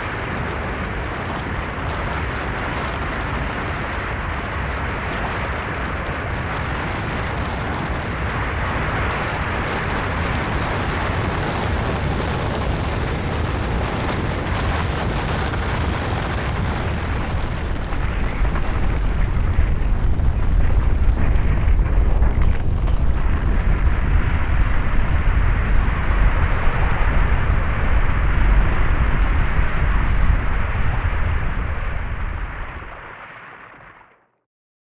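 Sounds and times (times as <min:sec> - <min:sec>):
deep rumble of rushing snow: 0:00.0 - 0:33.4.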